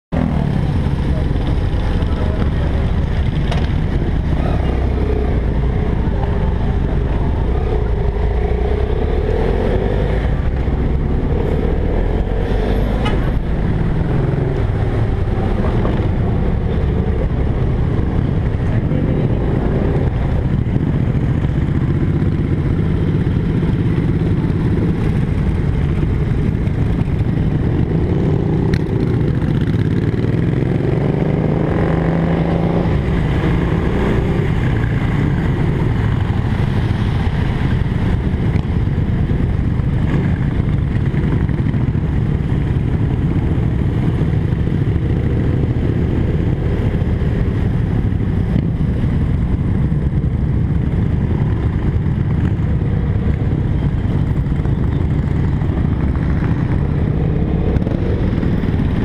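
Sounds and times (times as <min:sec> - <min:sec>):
motorcycle engine running: 0:00.2 - 0:59.0.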